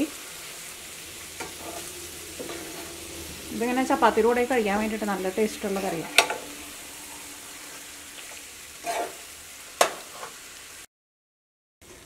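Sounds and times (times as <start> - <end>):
food sizzling in a pan: 0.0 - 10.9.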